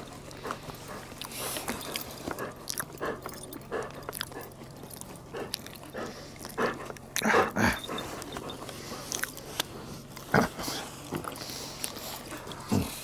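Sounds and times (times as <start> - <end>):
dog chewing wetly: 0.0 - 13.0.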